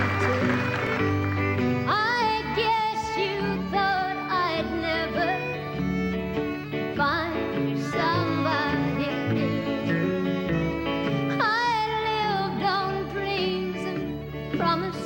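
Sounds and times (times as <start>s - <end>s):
country band playing: 0.0s - 15.0s
fiddle melody: 0.0s - 15.0s.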